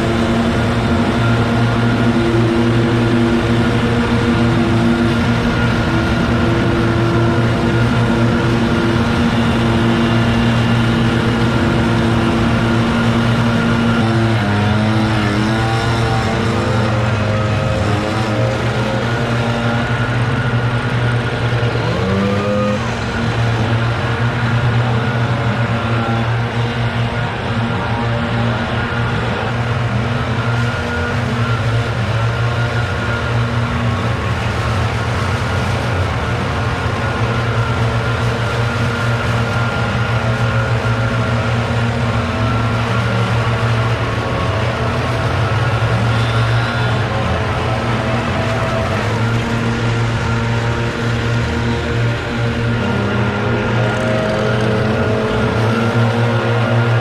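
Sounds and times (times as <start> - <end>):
leaf blower engine running: 0.0 - 57.0.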